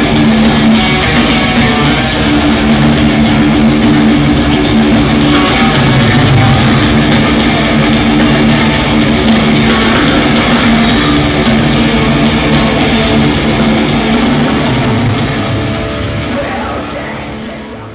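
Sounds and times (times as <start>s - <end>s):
heavy metal music: 0.0s - 17.9s.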